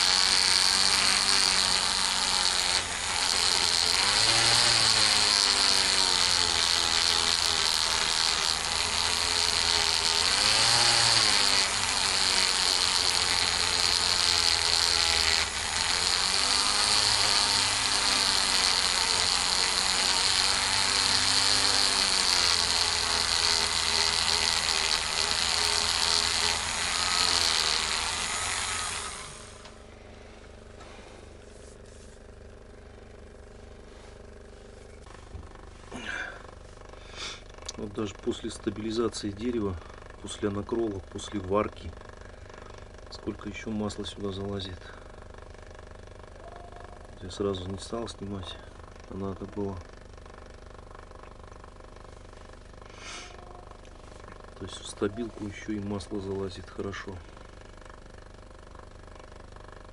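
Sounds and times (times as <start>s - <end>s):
motor winding down: 0.0s - 30.7s, 34.8s - 59.9s
rotary tool whining: 0.0s - 59.9s.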